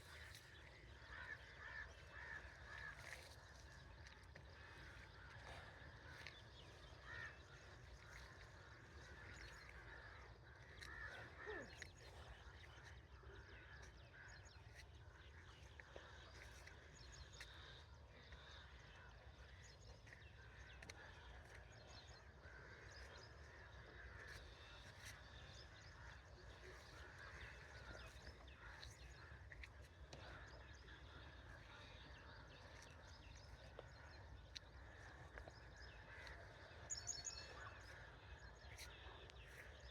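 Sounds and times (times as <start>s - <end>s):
bird calls and chirps: 0.0s - 39.9s.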